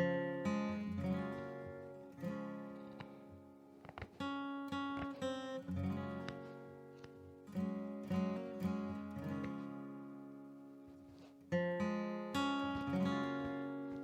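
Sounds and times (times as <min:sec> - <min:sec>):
acoustic guitar strumming and picking: 0:00.0 - 0:14.0.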